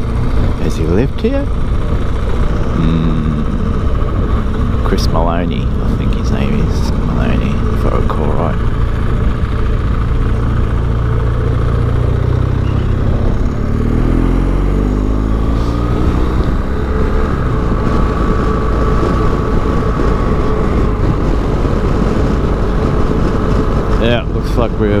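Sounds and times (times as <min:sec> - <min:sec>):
motorcycle engine accelerating: 0:00.0 - 0:25.0
wind and road noise: 0:00.0 - 0:25.0.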